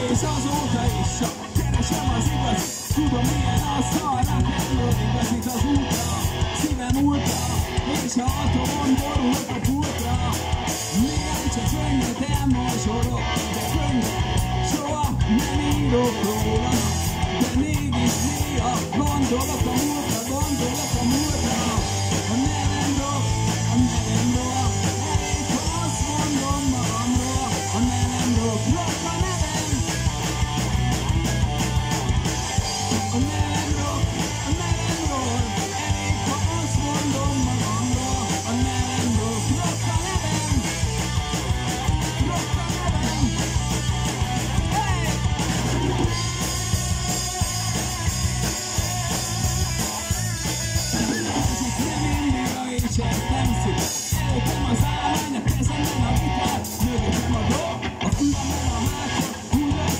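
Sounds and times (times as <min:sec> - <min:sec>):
bass guitar: 0:00.0 - 0:59.9
distorted electric guitar: 0:00.0 - 0:59.9
drum kit beat: 0:00.0 - 0:59.9.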